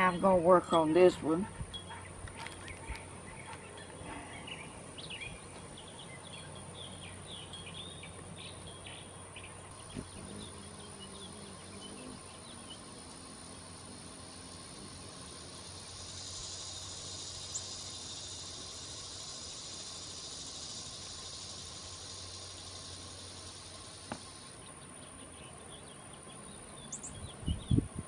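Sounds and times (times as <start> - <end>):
small birds chirping: 0.0 - 13.6, 14.6 - 28.0
outdoor background hiss: 0.0 - 28.0.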